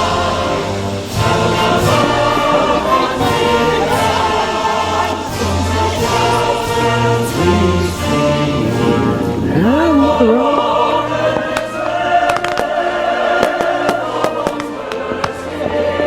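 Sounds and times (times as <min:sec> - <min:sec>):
choir singing: 0:00.0 - 0:16.0
sustained orchestral chords: 0:00.0 - 0:16.0.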